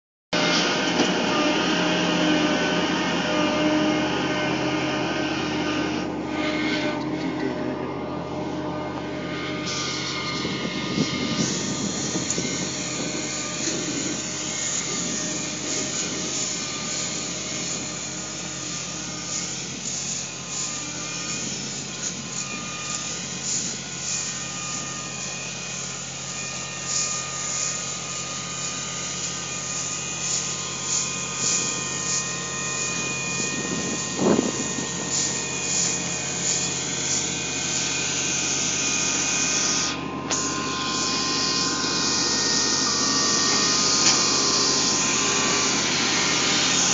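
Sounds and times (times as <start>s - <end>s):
combine harvester drone: 0.4s - 46.9s.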